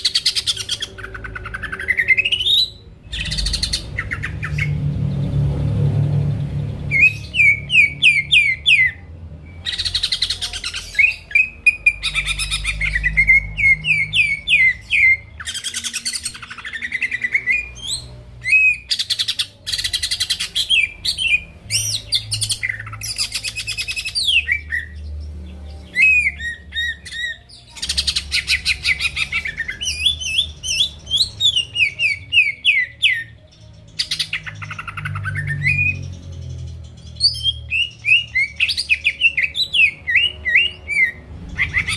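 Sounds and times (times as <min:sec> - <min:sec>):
bird singing whistles and trills: 0:00.0 - 0:04.8, 0:06.9 - 0:25.2, 0:25.8 - 0:41.9.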